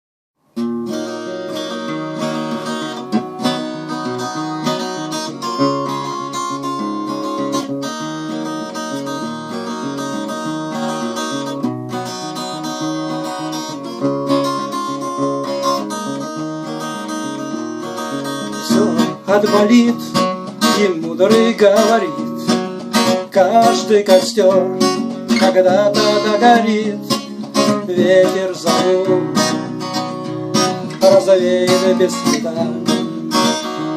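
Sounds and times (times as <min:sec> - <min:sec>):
acoustic guitar strumming: 0:00.5 - 0:33.9.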